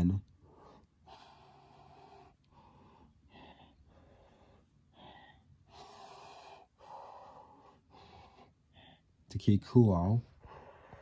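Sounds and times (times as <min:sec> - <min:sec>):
person breathing: 0:00.3 - 0:09.3, 0:10.2 - 0:11.0.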